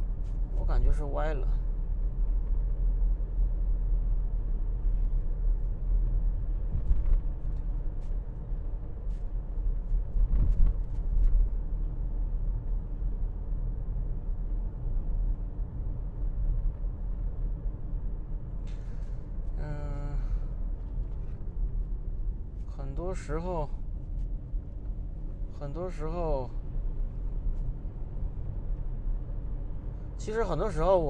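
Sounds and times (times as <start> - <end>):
car cabin rumble: 0.0 - 31.0.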